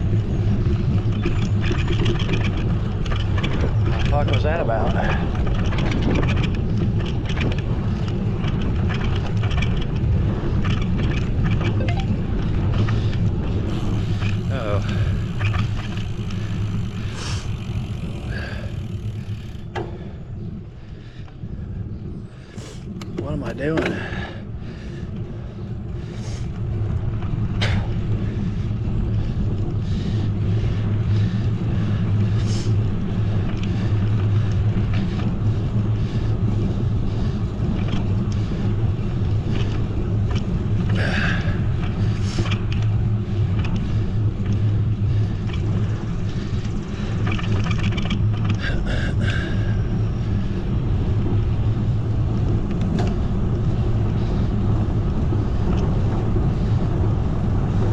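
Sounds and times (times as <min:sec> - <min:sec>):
bicycle road rumble: 0:00.0 - 0:57.9
wind on microphone: 0:00.0 - 0:57.9.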